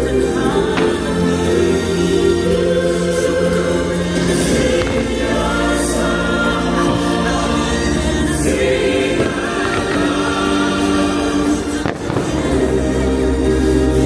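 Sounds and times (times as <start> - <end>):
choir singing held chords: 0.0 - 14.0
soundtrack music: 0.0 - 14.0.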